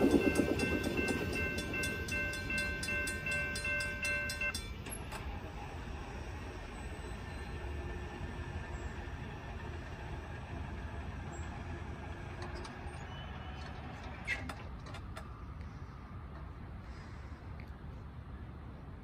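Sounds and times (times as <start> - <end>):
departing train rumble: 0.0 - 17.5.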